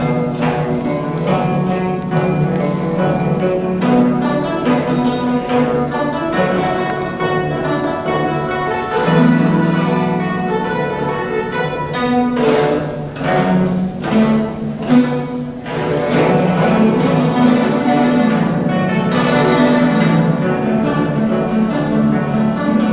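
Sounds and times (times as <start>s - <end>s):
sweeping strokes across strings: 0.0s - 22.9s
zither plucked runs: 0.0s - 22.9s.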